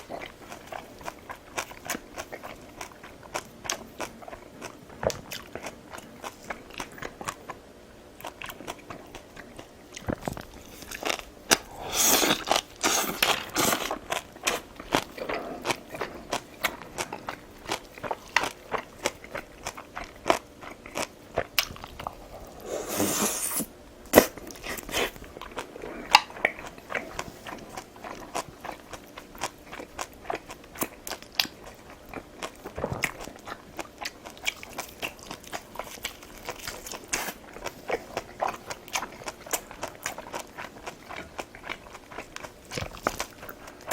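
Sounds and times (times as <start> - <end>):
chewing and biting food: 0.0 - 43.9.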